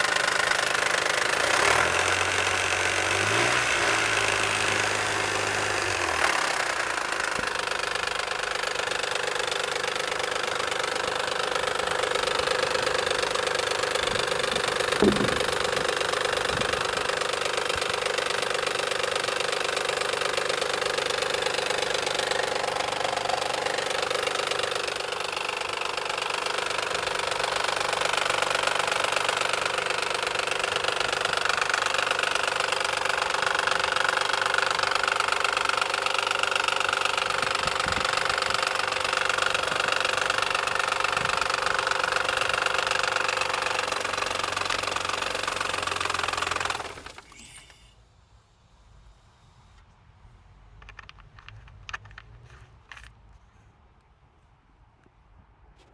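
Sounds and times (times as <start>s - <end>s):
car engine running: 0.0s - 47.9s
harsh engine noise: 0.0s - 47.9s.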